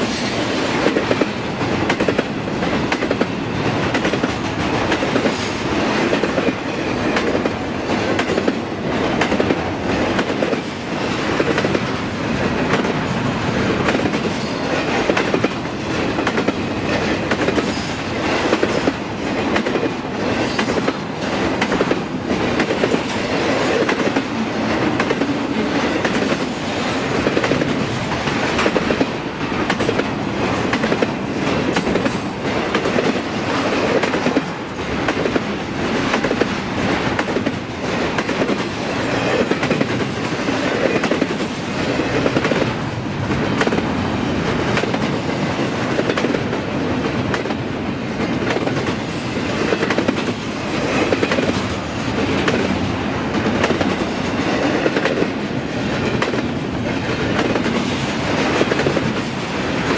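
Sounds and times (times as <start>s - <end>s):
train cars rumbling past: 0.0s - 59.9s
wheels clicking on rails: 0.0s - 59.9s.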